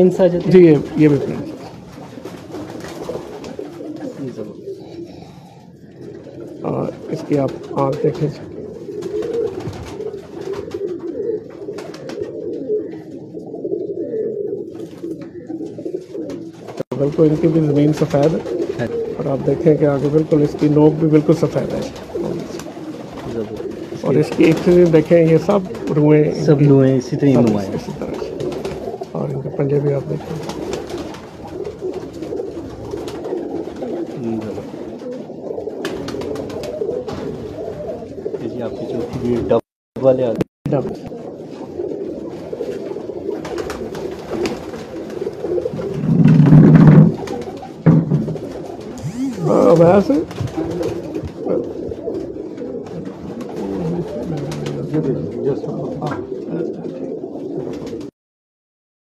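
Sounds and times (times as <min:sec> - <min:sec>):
pigeons cooing: 0:00.0 - 0:39.6, 0:40.8 - 0:58.1.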